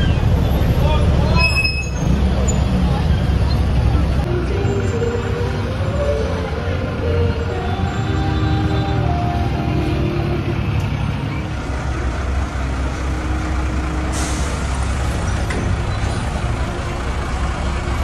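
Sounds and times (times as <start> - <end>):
car and bus engines idling: 0.0 - 18.0.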